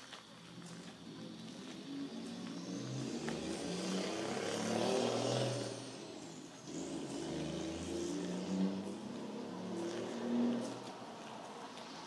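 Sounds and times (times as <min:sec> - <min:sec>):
car passing by: 0:00.5 - 0:12.0
second vehicle passing: 0:00.5 - 0:12.0.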